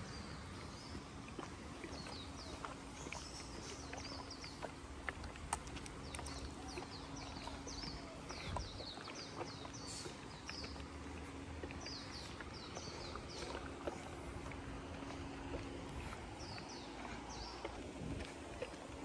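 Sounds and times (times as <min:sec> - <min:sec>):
birds chirping: 0:00.0 - 0:19.0
low hum and rumble: 0:00.0 - 0:19.0
footsteps on pavement: 0:00.6 - 0:19.0.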